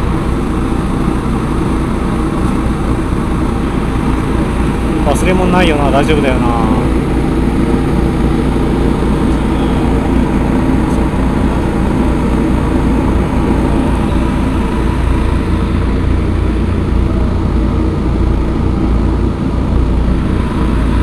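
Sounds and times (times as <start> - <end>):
ship engines rumbling: 0.0 - 21.0.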